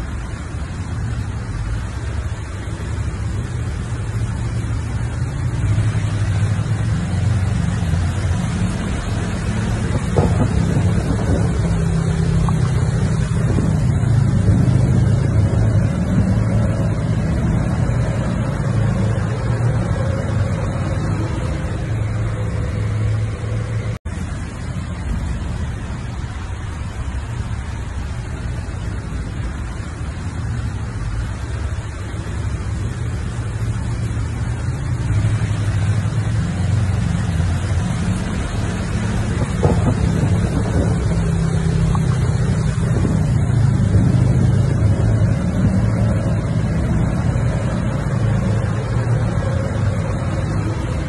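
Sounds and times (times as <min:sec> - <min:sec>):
vehicle engine and road rumble: 0:00.0 - 0:51.0.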